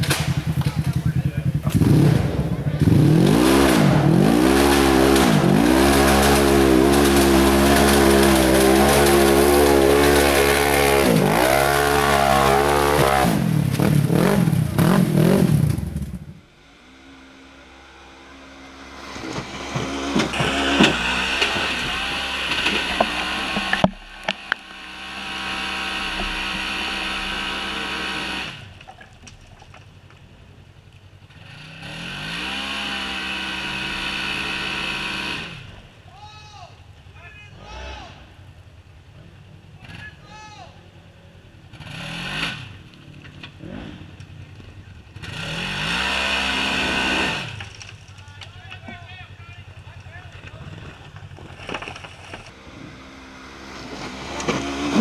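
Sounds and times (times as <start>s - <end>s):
race buggy engine revving: 0.0s - 28.8s, 30.6s - 36.0s, 36.8s - 55.0s
second engine revving with knocks: 0.0s - 29.4s, 31.0s - 36.0s, 41.4s - 49.0s, 49.7s - 55.0s.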